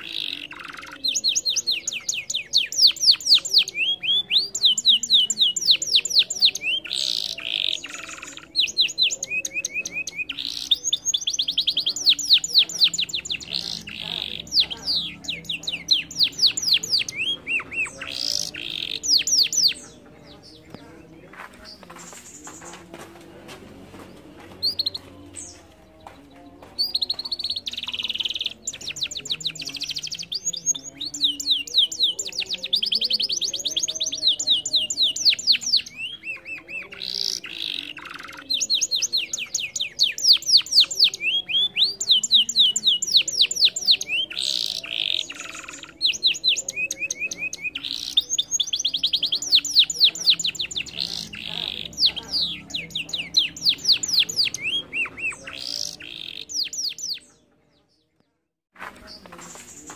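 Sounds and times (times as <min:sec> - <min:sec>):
canary singing trills: 0:00.0 - 0:22.8, 0:23.8 - 0:58.3.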